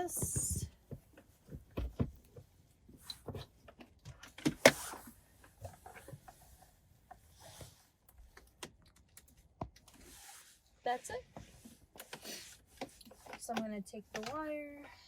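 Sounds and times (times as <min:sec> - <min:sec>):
wires and trim rustling: 0:00.0 - 0:15.0.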